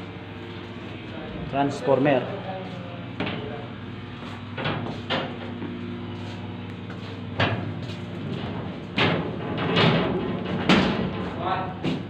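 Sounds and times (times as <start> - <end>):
engine room machinery hum: 0.0 - 12.0.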